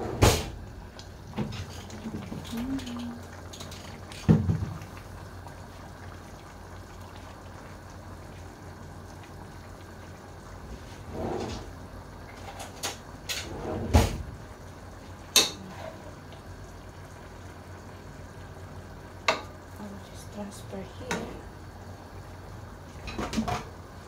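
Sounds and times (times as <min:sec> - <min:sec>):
sauce bubbling in a pan: 0:00.2 - 0:13.4, 0:14.2 - 0:24.0.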